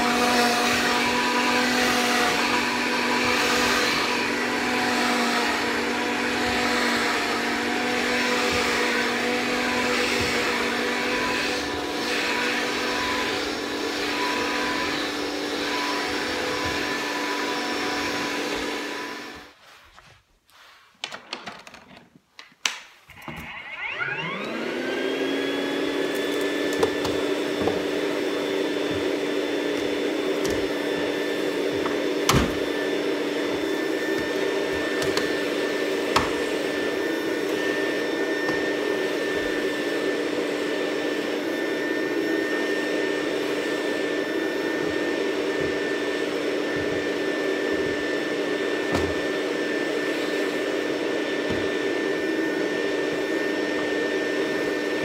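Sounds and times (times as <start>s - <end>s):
vacuum cleaner running: 0.0s - 20.8s, 22.6s - 55.0s.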